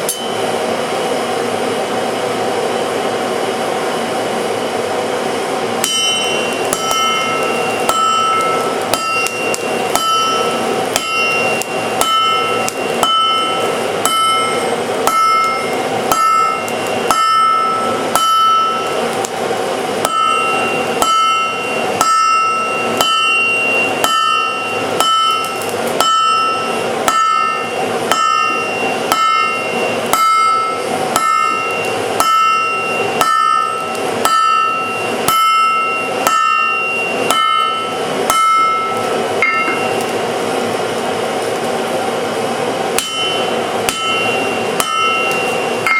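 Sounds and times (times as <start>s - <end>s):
hammer striking steel on anvil: 0.0s - 0.6s, 5.8s - 19.4s, 20.0s - 40.2s, 43.0s - 45.9s.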